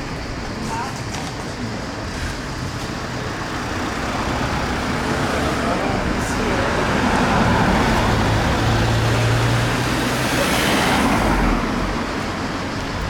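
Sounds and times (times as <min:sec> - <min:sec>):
road traffic noise: 0:00.0 - 0:13.0
motor vehicle running nearby: 0:02.1 - 0:13.0.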